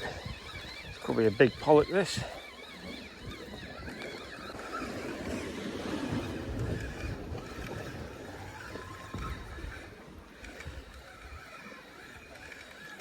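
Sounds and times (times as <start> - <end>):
wind buffeting microphone: 0.0 - 12.5.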